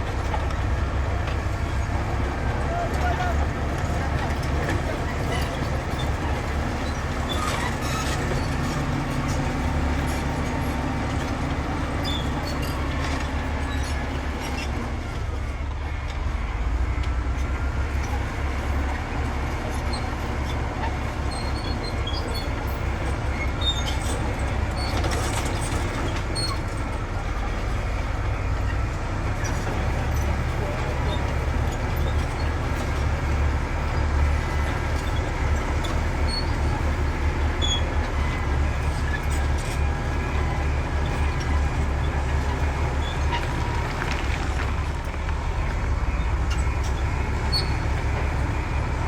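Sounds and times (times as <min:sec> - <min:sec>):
diesel machinery engine rumble: 0:00.0 - 0:49.0.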